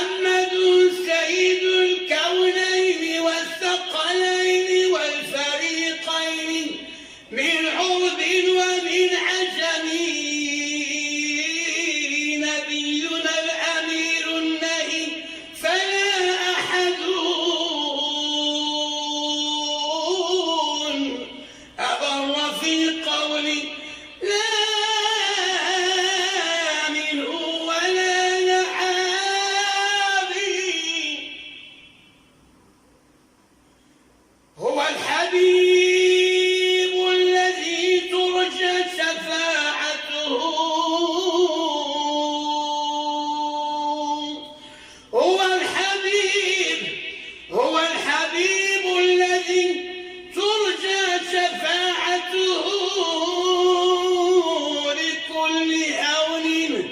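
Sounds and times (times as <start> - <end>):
man chanting: 0.0 - 32.0, 34.6 - 56.9
man singing melismatic devotional song: 0.0 - 32.0, 34.6 - 56.9.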